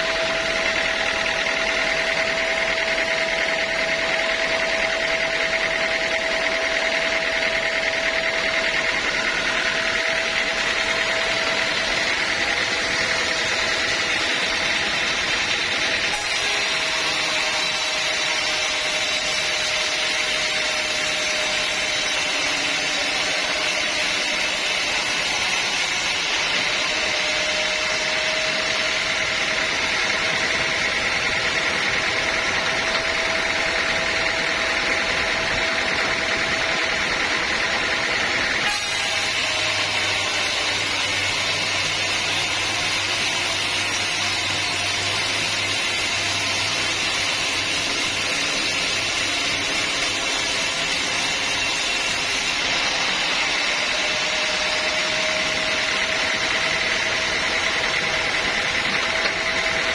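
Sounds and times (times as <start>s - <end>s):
sawmill saw whining: 0.0s - 59.9s.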